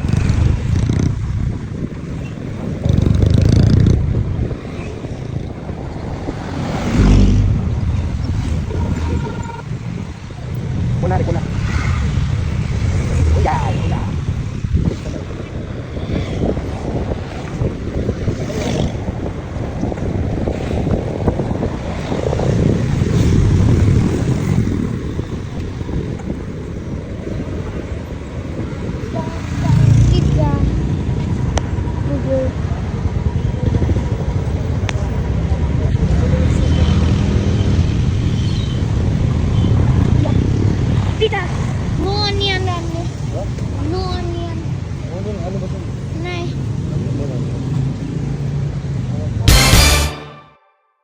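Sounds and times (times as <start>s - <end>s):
wind rushing over microphone: 0.0s - 49.5s
moving vehicle rumble: 0.0s - 50.0s
road and engine noise: 0.0s - 50.5s.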